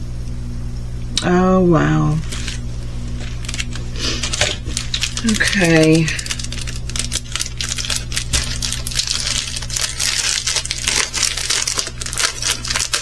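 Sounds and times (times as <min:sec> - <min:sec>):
plastic bags crinkling: 0:02.2 - 0:13.0.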